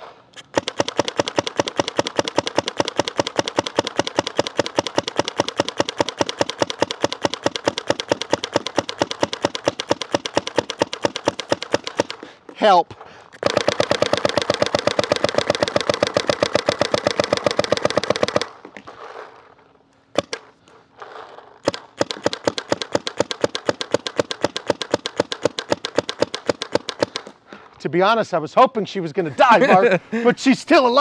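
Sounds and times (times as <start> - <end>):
paintball marker firing shots: 0.0 - 12.3, 13.4 - 19.0, 20.2 - 27.4.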